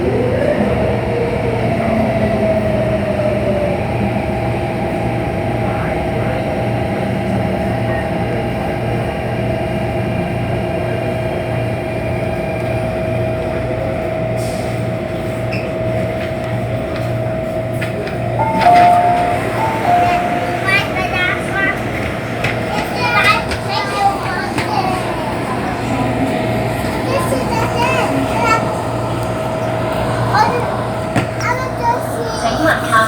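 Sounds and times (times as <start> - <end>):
electric train whine: 0.0 - 33.0
wheels rumbling on track: 0.0 - 33.0.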